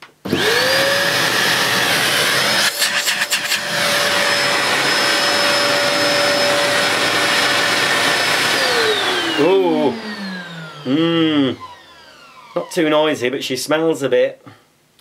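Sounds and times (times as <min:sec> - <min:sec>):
vacuum cleaner motor whine: 0:00.2 - 0:13.2.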